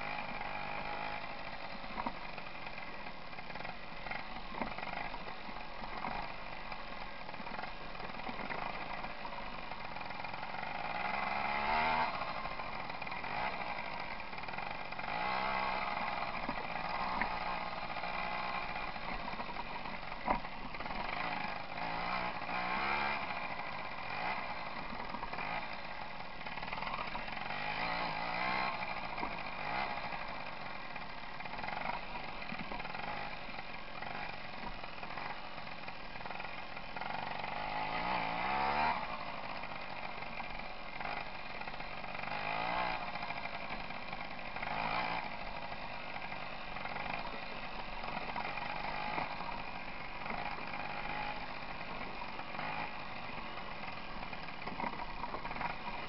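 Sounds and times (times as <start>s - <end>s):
moped engine revving: 0.0s - 56.0s.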